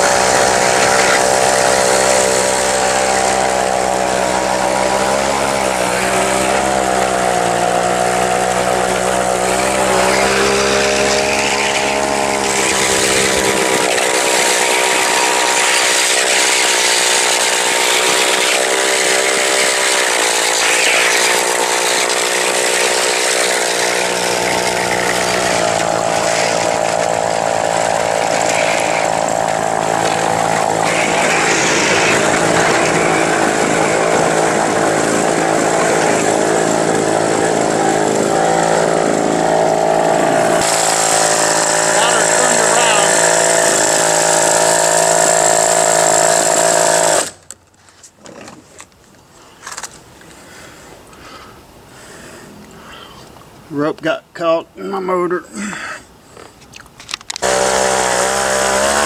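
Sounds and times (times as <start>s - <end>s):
two-stroke chainsaw engine running: 0.0s - 47.5s, 57.4s - 59.0s.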